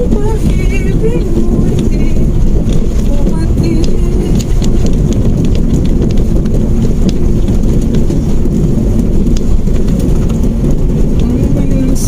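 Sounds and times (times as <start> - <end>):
car engine and road noise: 0.0 - 12.0
light ticks and rattles: 0.0 - 12.0.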